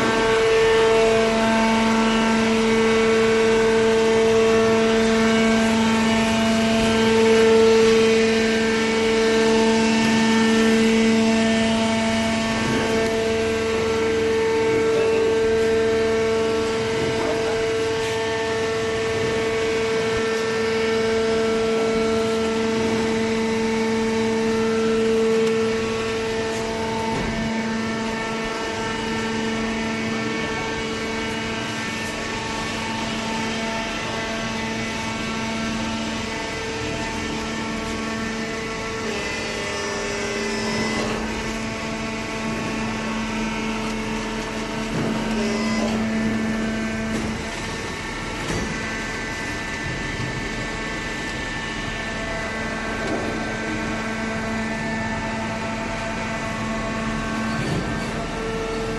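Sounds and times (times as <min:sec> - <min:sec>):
hydraulic motor and pump hum: 0:00.0 - 0:58.9.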